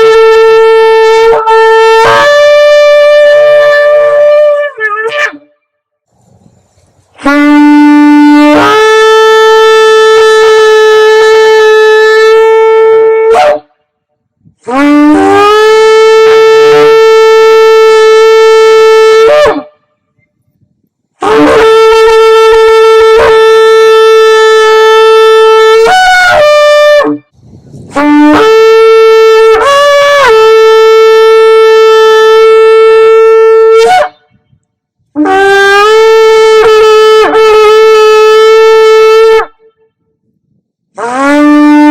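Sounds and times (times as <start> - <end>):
shofar blasts: 0.0 - 5.6, 6.2 - 13.8, 14.4 - 20.0, 21.2 - 34.5, 35.1 - 40.2, 40.9 - 41.9.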